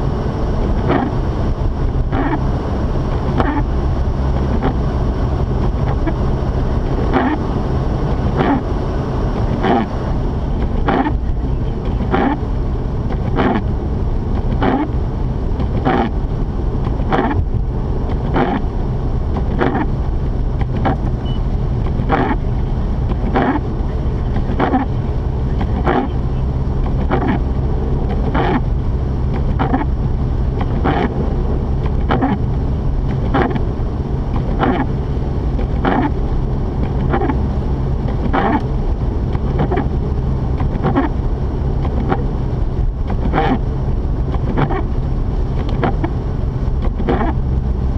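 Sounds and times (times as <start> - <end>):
car engine droning: 0.0 - 47.9
windshield wipers sweeping: 0.0 - 47.9.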